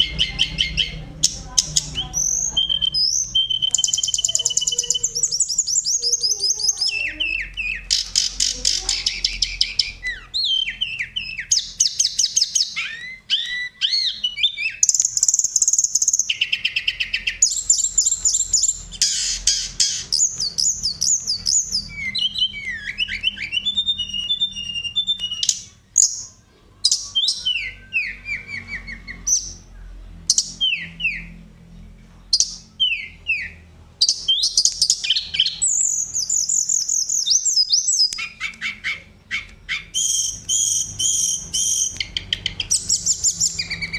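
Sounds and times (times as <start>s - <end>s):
bird singing trills and whistles: 0.0s - 31.5s, 32.2s - 43.9s.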